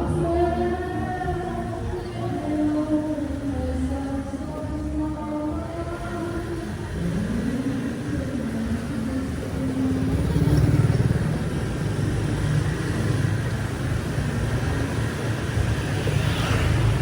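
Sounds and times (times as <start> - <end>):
passing vehicle engines: 0.0 - 17.0.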